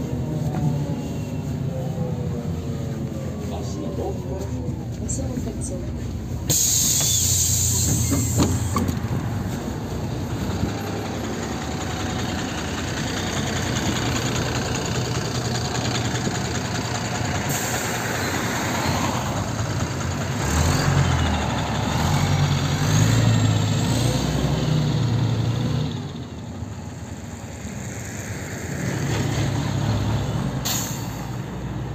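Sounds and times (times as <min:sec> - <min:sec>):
bus diesel engine passing: 0:00.0 - 0:31.9.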